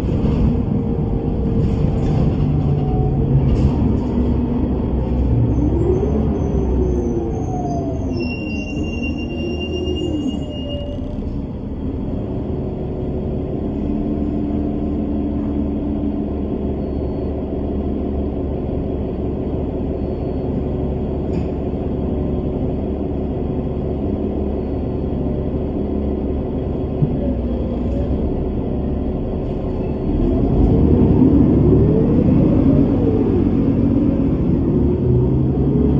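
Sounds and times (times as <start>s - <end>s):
bus engine and road rumble: 0.0s - 35.9s.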